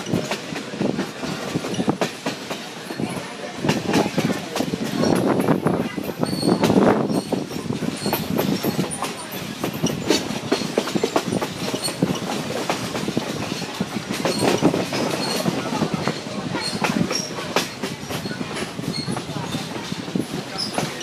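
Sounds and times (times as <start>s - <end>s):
train car rumbling and rattling: 0.0s - 21.0s
wheels clicking over rail joints: 0.0s - 21.0s.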